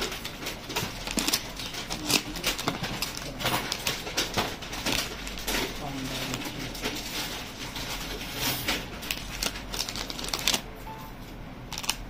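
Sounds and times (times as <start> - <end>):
plastic packets crinkling: 0.0 - 10.8.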